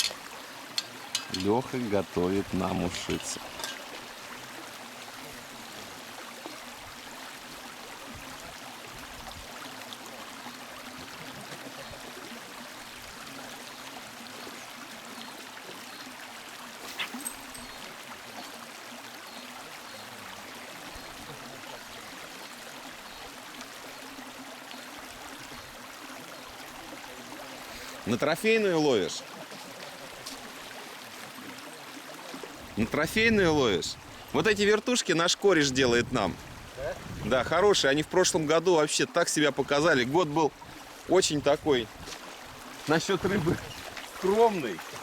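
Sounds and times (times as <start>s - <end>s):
river water flowing: 0.0s - 45.0s.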